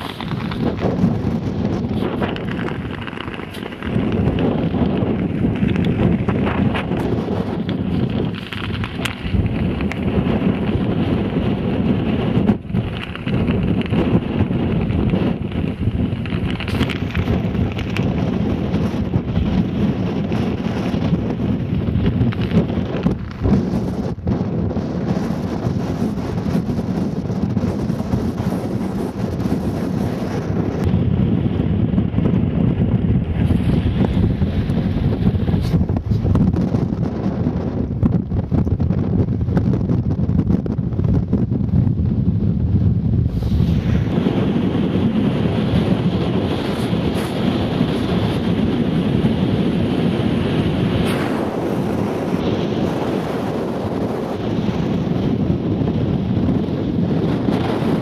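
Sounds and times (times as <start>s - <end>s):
wind blowing across microphone: 0.0s - 58.0s.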